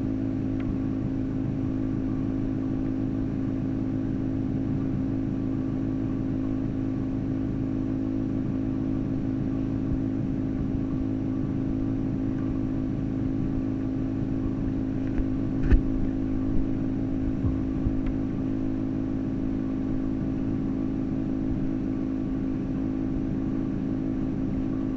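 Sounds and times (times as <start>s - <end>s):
pump motor hum underwater: 0.0s - 24.9s.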